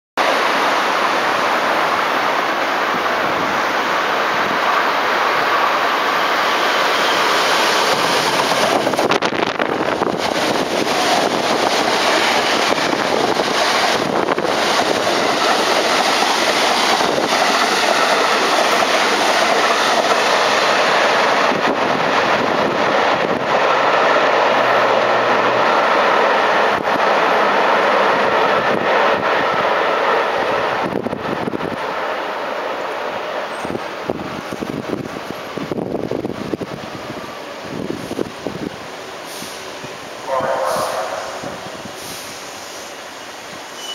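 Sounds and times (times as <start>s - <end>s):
train wheels on rails: 0.2s - 43.9s.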